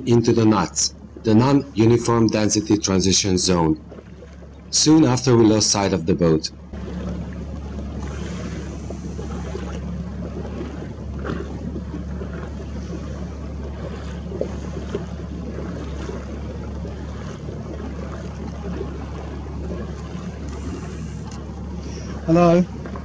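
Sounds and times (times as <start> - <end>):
boat motor droning: 0.0 - 23.0.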